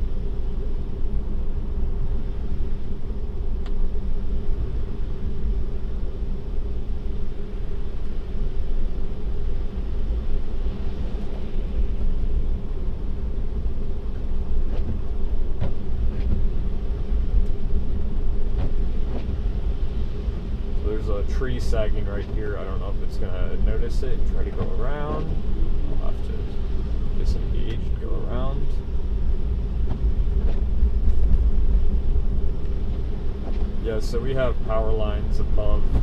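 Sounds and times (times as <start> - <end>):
road and tyre rumble: 0.0 - 36.0
steady cabin hum: 0.0 - 36.0.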